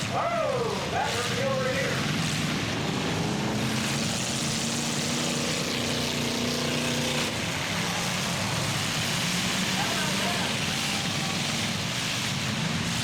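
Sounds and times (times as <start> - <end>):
truck engines revving high: 0.0 - 13.0.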